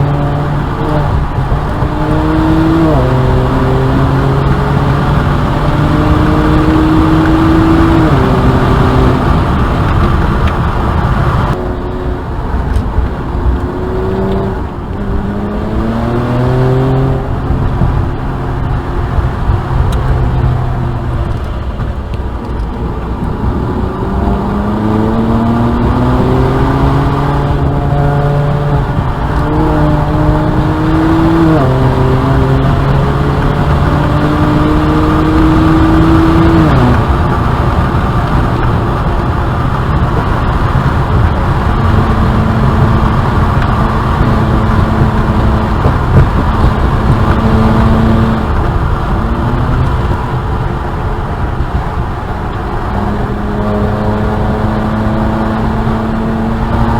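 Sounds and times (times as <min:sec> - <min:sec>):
car engine accelerating hard: 0:00.0 - 0:56.9.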